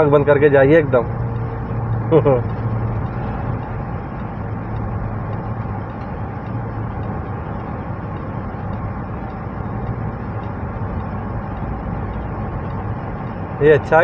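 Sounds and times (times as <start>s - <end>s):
car cabin engine and tyre drone: 0.0s - 14.0s.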